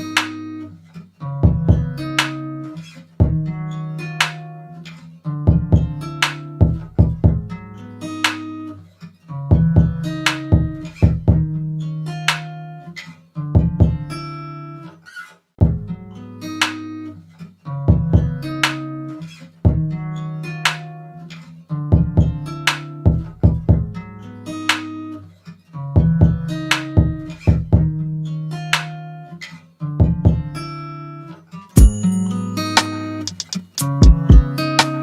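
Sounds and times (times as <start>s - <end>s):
plucked guitar pattern: 0.0s - 15.0s, 15.6s - 35.0s.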